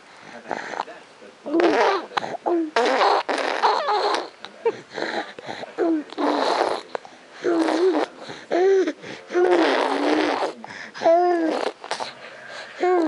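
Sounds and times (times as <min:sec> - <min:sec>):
baby vocalizing: 0:01.5 - 0:13.0.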